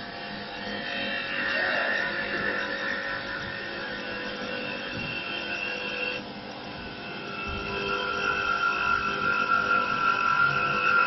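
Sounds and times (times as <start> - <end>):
lathe motor whine: 0.0 - 11.0.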